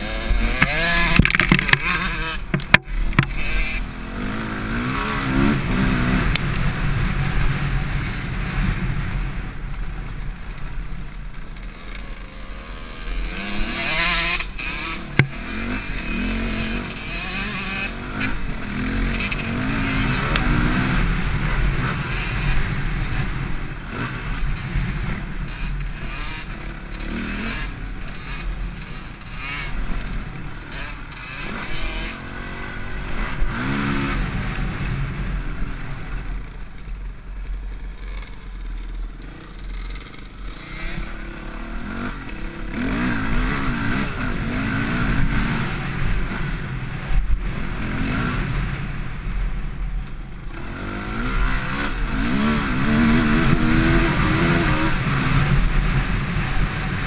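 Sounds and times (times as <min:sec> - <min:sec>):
dirt bike engine revving: 0:00.0 - 0:09.5, 0:11.0 - 0:36.9, 0:37.6 - 0:49.4, 0:50.4 - 0:57.0.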